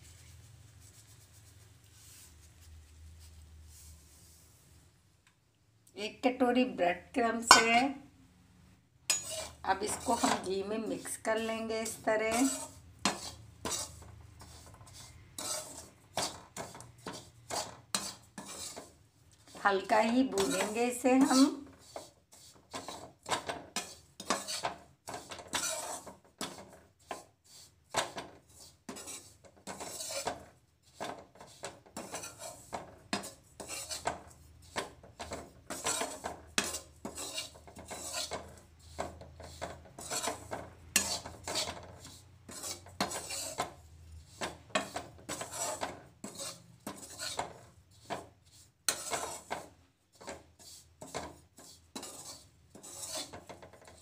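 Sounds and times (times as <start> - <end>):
spatula scraping a steel pan: 9.1 - 54.0.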